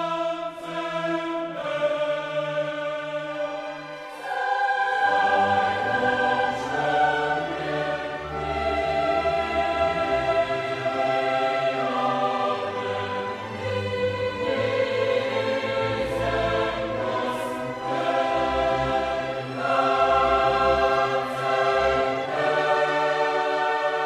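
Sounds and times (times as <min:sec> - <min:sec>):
choir singing: 0:00.0 - 0:24.0.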